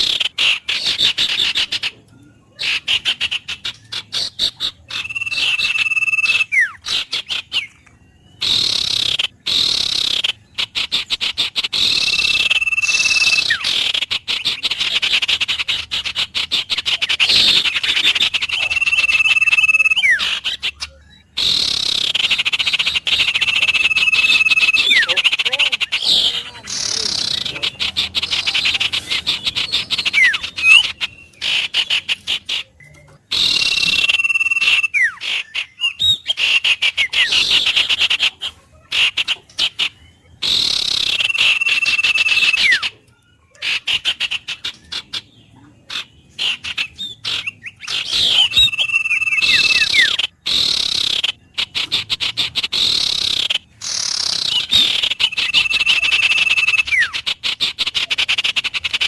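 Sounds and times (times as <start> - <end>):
birds calling: 0.0 - 59.0
frogs calling: 0.0 - 59.0.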